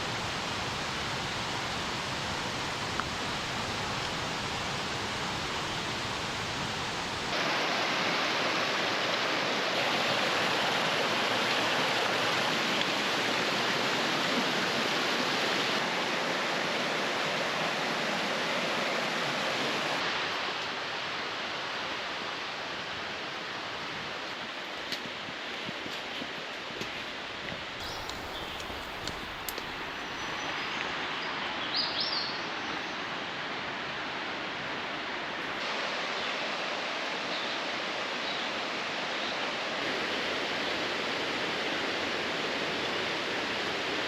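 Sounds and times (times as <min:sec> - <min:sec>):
water rushing over rocks: 0:00.0 - 0:24.6, 0:27.8 - 0:31.4, 0:34.2 - 0:44.0.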